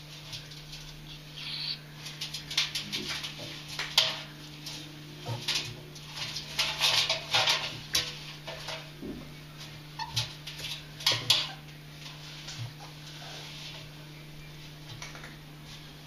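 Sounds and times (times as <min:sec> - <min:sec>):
ferrets making play noises: 0:00.0 - 0:16.0
ferrets scuffling in a drum: 0:00.0 - 0:16.0.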